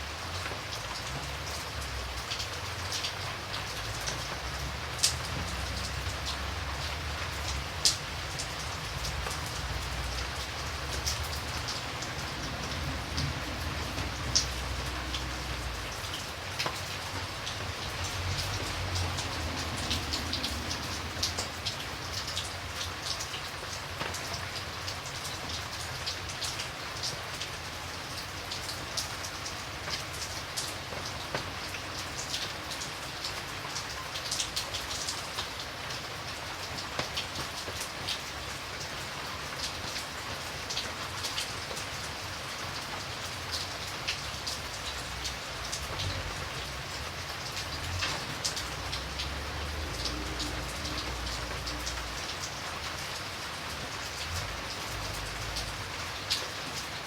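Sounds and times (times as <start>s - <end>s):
rain drops ticking: 0.0s - 57.0s
rain hiss: 0.0s - 57.0s.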